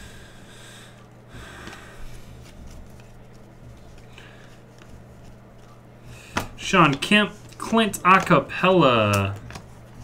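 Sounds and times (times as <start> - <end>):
low electrical hum: 0.0 - 10.0
trading cards rustling: 1.6 - 10.0.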